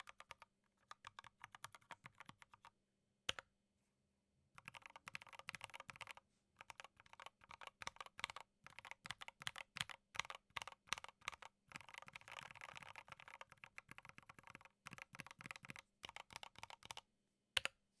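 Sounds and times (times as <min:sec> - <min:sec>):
mechanical keyboard typing: 0:00.0 - 0:02.7, 0:04.6 - 0:17.0.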